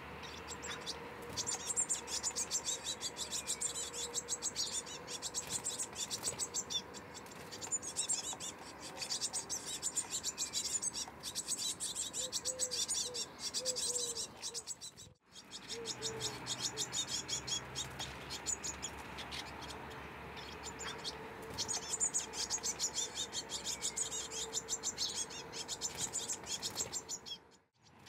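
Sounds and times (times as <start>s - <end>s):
blue tits chirping: 0.2s - 28.0s.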